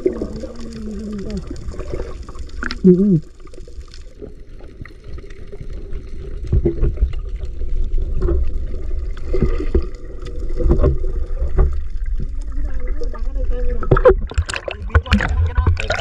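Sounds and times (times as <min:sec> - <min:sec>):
underwater bubbles: 0:00.0 - 0:16.0
water sloshing and gurgling: 0:00.0 - 0:16.0.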